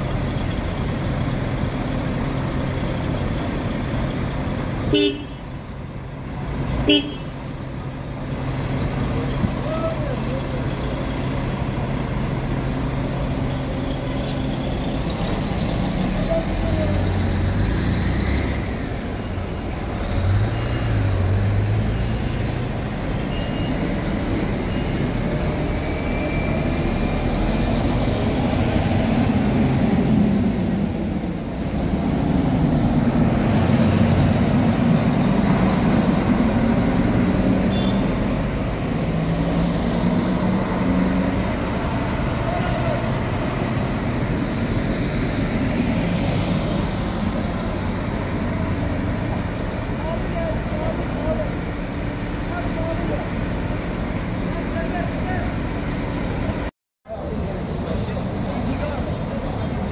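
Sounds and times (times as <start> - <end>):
road traffic din: 0.0 - 59.9.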